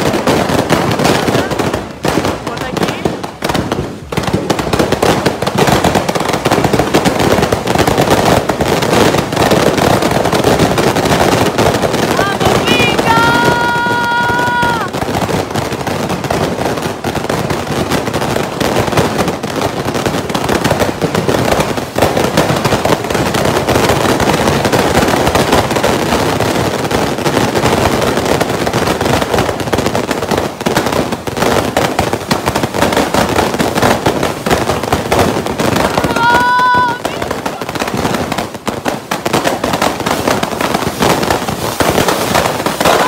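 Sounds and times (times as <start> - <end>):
fireworks crackling and banging: 0.0 - 43.0.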